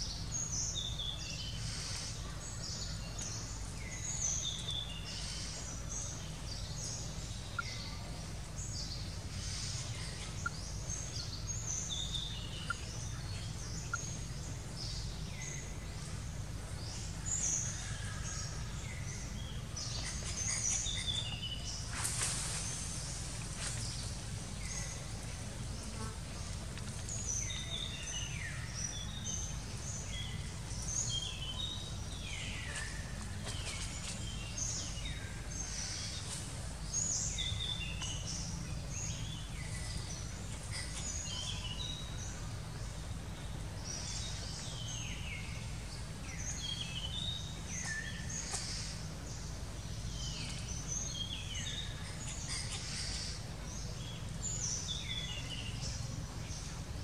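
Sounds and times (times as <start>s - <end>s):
forest birds chirping and whistling: 0.0s - 57.0s
steady low rumble: 0.0s - 57.0s.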